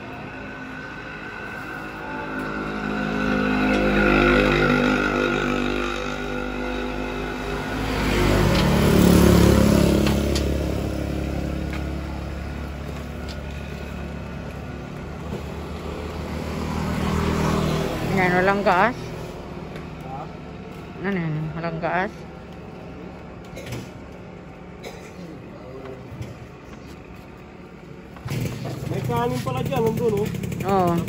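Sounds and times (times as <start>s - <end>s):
motorcycle passing: 0.0s - 31.0s
road traffic passing: 0.0s - 31.0s.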